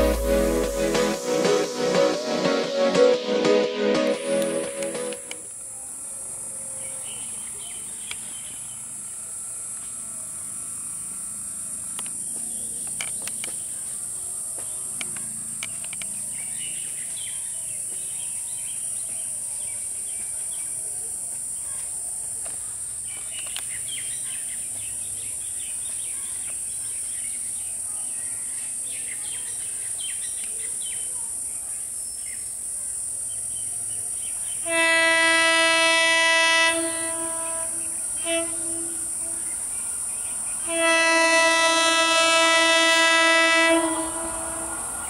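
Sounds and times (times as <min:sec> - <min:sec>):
insects droning: 0:05.3 - 0:45.0.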